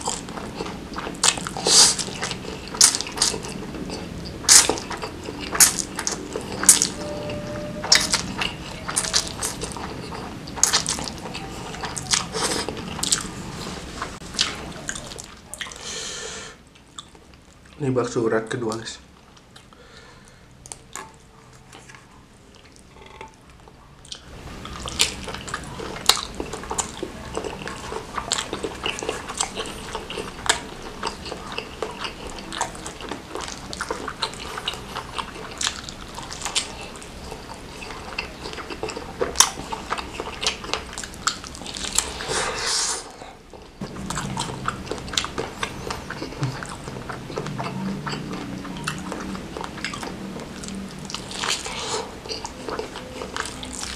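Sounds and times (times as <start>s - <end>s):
biting and chewing food: 0.0s - 15.8s, 20.6s - 42.6s, 43.5s - 53.9s.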